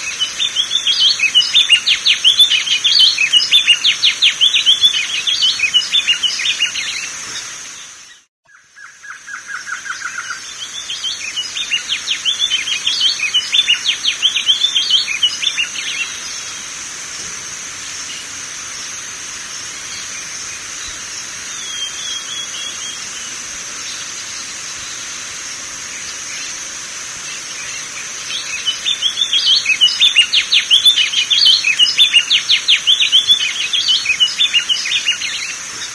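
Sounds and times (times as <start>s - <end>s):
bird singing twittering song: 0.0s - 35.9s
steady high-pitched hiss: 0.0s - 35.9s.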